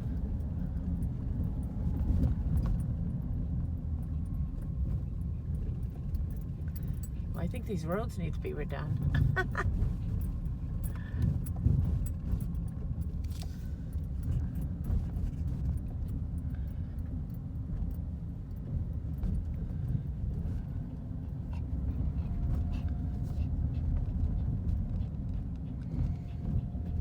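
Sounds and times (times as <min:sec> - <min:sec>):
rattles and clicks in vehicle: 0:00.0 - 0:27.0
vehicle road rumble: 0:00.0 - 0:27.0.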